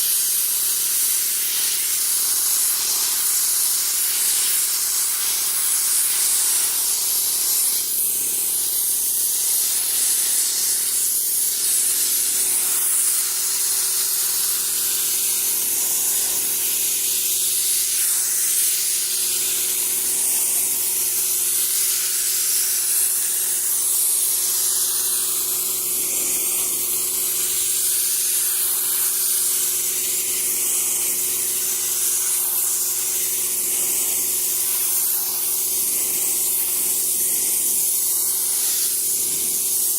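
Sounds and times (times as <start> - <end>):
paint spray gun hissing: 0.0 - 39.9.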